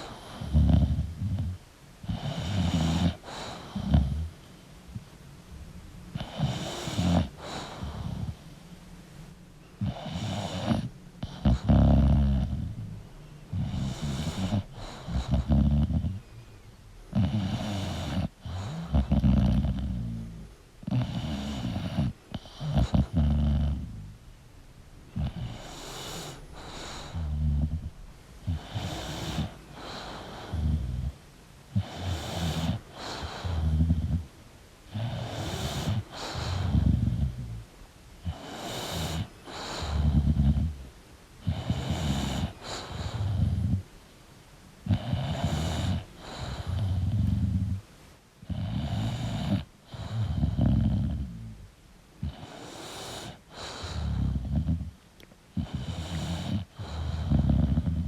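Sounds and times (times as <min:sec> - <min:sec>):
dog snoring: 0:00.0 - 0:05.1, 0:06.1 - 0:08.6, 0:09.8 - 0:16.3, 0:17.1 - 0:24.2, 0:25.1 - 0:34.3, 0:34.9 - 0:44.0, 0:44.8 - 0:47.8, 0:48.4 - 0:58.0.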